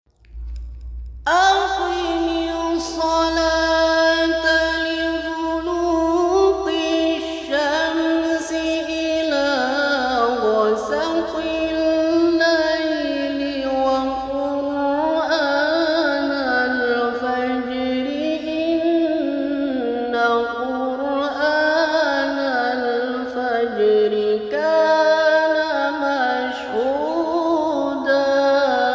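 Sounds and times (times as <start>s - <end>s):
person reciting in melismatic style: 0.2s - 28.9s.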